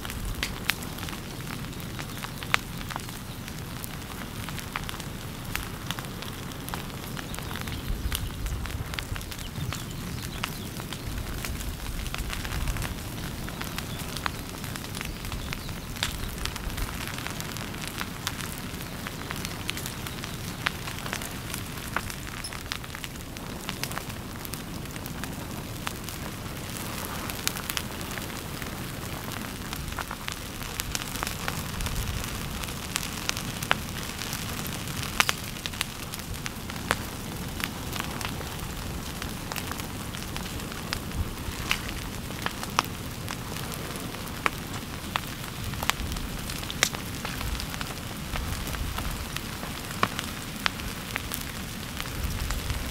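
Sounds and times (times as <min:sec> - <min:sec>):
burning plants crackling and snapping: 0:00.0 - 0:52.9.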